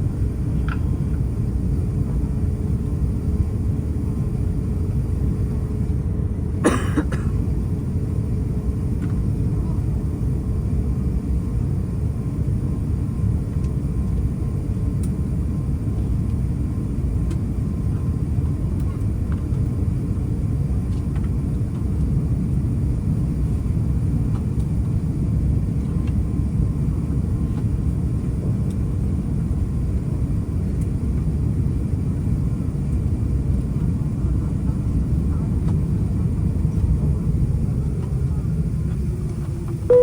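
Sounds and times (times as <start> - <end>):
airplane cabin rumble: 0.0 - 40.0.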